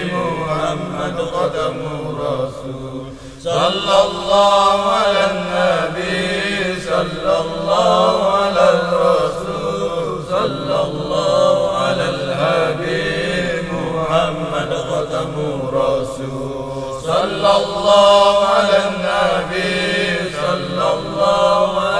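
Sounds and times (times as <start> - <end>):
melodic chanting: 0.0 - 21.9.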